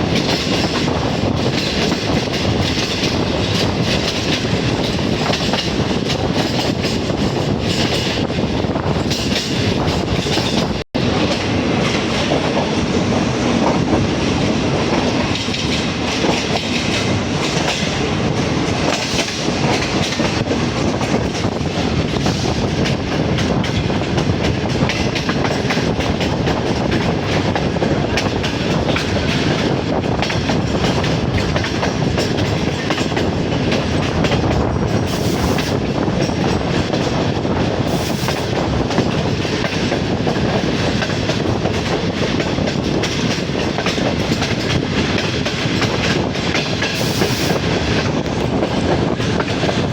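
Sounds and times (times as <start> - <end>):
clickety-clack over rail joints: 0.0 - 49.9
train wheels rumbling on rails: 0.0 - 49.9.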